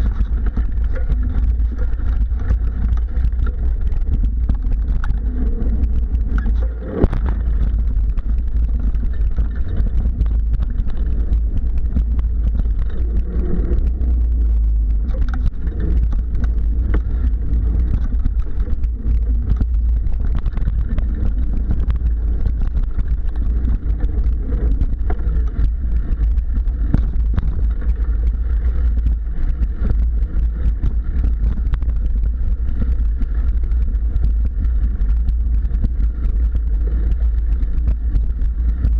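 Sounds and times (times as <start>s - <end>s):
bike rattling on bumpy trail: 0.0s - 38.9s
low rumble of bike vibration: 0.0s - 38.9s.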